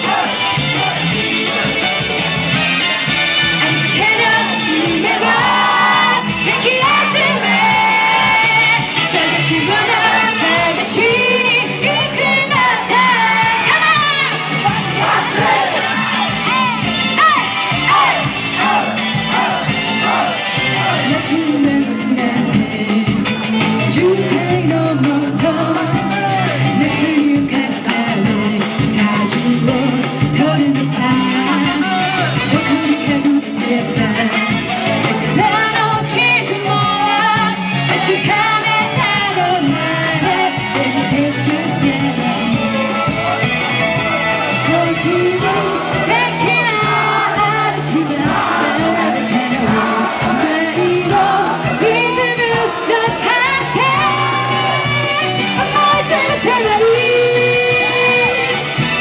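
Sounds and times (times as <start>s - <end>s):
pop-rock band playing: 0.0s - 59.0s
woman singing into microphone: 3.6s - 15.6s, 21.0s - 43.1s, 44.5s - 58.8s.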